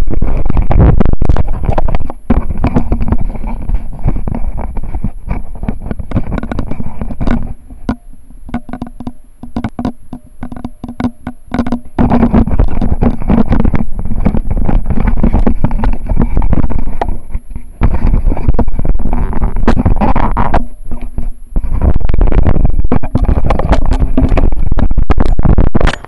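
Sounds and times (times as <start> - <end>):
sharp clicks and knocks: 0.0 - 26.0
camera handling rubbing: 0.2 - 26.0.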